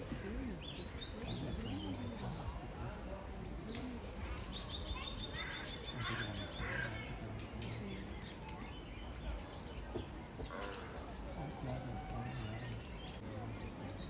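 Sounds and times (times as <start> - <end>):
faint distant voices: 0.0 - 14.0
small birds chirping: 0.0 - 14.0.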